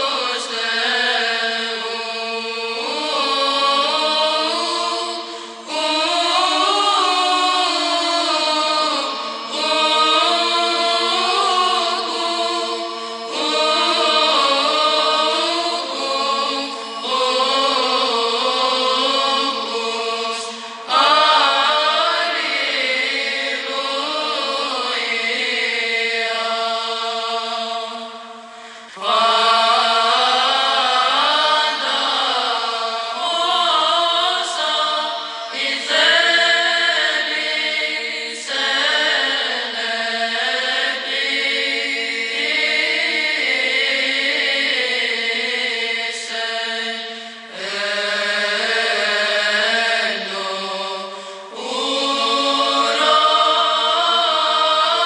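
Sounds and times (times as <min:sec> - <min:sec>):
sung chant over drone: 0:00.0 - 0:55.0.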